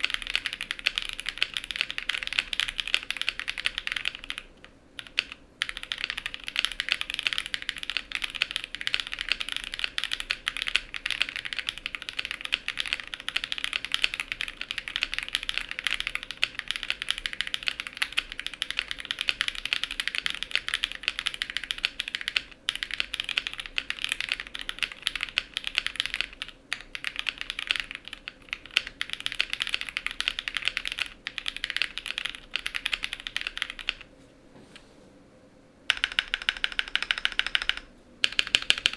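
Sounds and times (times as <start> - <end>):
fast mechanical keyboard typing: 0.0 - 34.1, 35.9 - 38.9.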